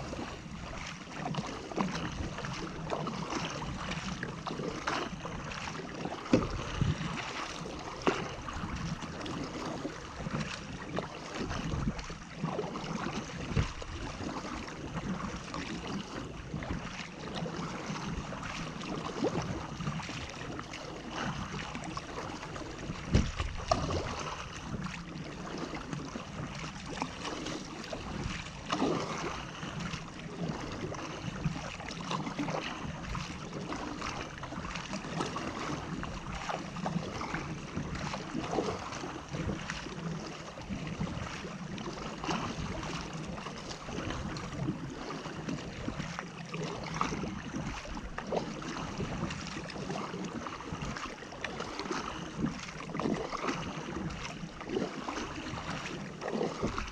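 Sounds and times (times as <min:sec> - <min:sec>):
paddle splashing into water: 0:00.0 - 0:56.9
water rushing past hull: 0:00.0 - 0:56.9.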